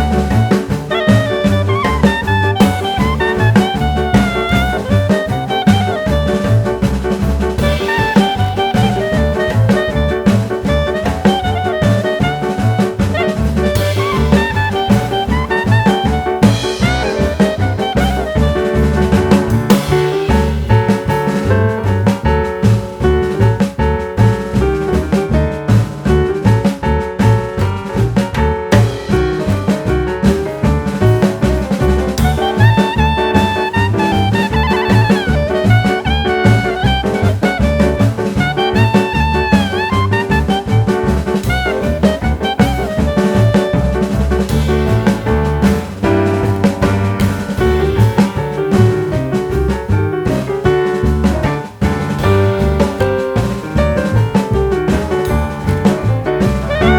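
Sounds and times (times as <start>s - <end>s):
upbeat swing music: 0.0s - 56.9s.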